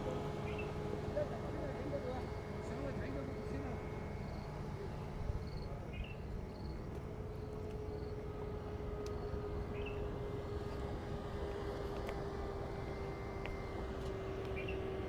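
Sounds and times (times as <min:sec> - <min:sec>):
faint steady hum: 0:00.0 - 0:15.0
low outdoor rumble: 0:00.0 - 0:15.0.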